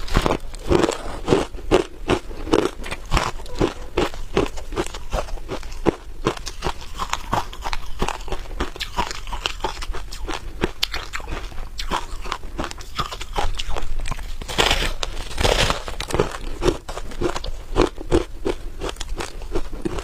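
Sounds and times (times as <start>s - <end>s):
chewing crunchy frost: 0.0s - 20.0s.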